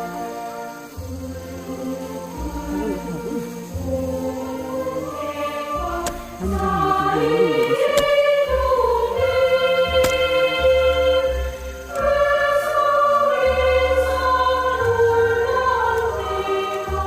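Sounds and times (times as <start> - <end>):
choir-like singing: 0.0 - 17.0.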